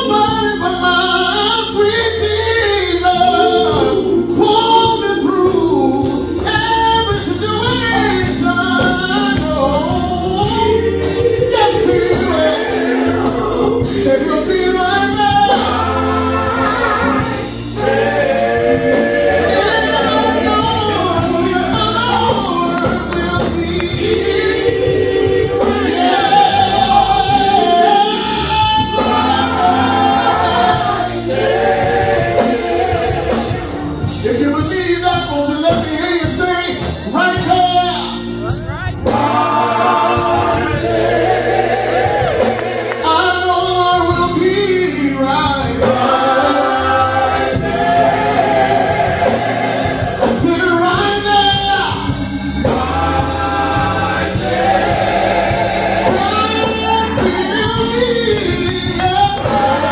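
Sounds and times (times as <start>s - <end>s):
male vocal group singing gospel: 0.0s - 59.9s.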